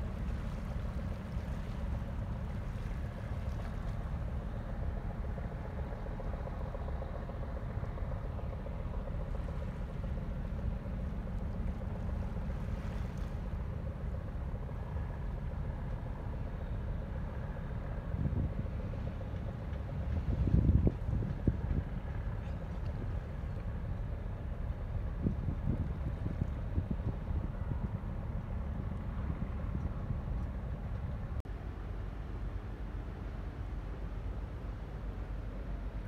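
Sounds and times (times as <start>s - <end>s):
wind buffeting microphone: 0.0s - 31.4s
barge engine low rumble: 0.0s - 36.0s
faint engine tones: 0.0s - 36.0s.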